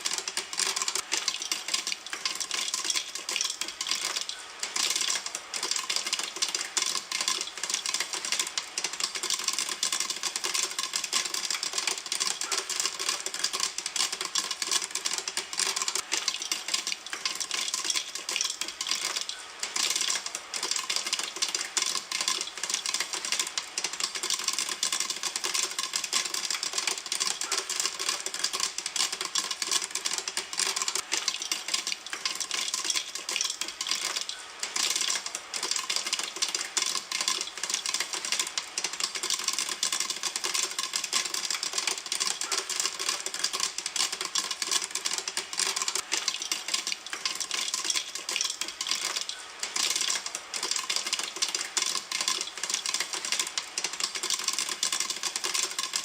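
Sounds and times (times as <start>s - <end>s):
popcorn popping in a pan: 0.0s - 56.0s.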